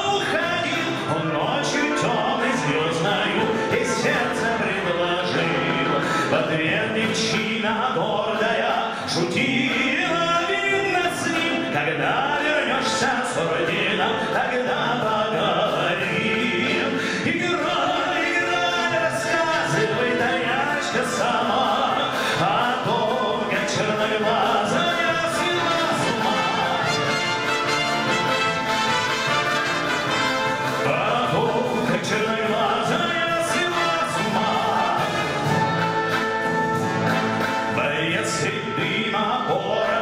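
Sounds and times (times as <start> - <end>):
military brass and wind band: 0.0 - 7.4, 8.2 - 40.0
man singing into a microphone: 0.0 - 27.3, 30.8 - 35.5, 37.7 - 40.0.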